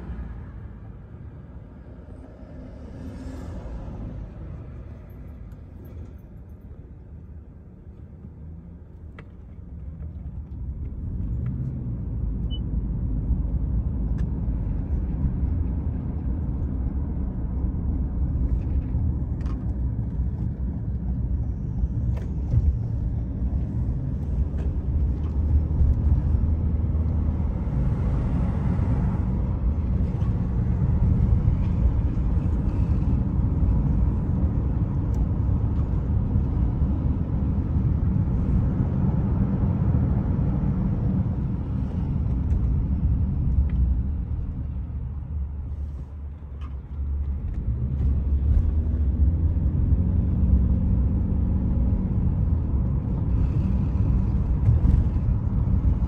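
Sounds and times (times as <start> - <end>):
car driving heard from inside: 0.0 - 56.0.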